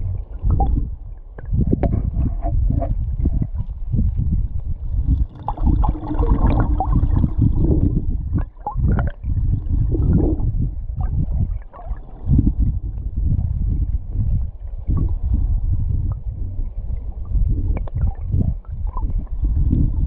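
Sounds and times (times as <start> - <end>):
underwater river rumble and gurgling: 0.0 - 20.0.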